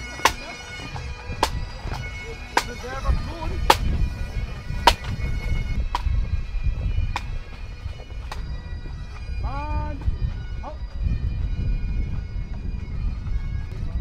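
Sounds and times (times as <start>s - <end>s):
bagpipes playing: 0.0s - 14.0s.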